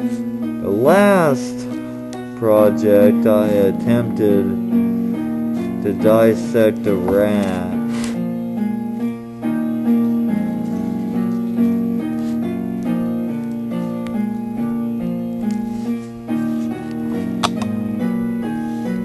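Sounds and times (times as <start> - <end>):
electronic keyboard piano melody: 0.0 - 19.0.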